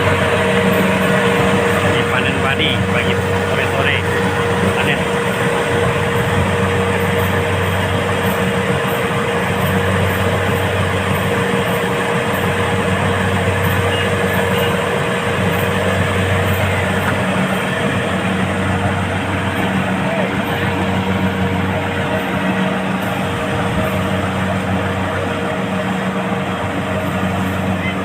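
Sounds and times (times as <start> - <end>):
harvester engine humming with whine: 0.0 - 28.0.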